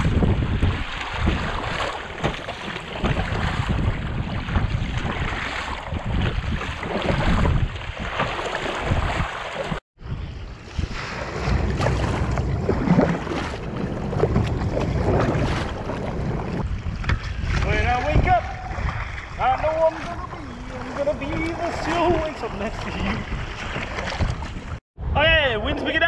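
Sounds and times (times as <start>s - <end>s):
water splashing around kayak: 0.0s - 24.8s
wind buffeting microphone: 0.0s - 26.0s.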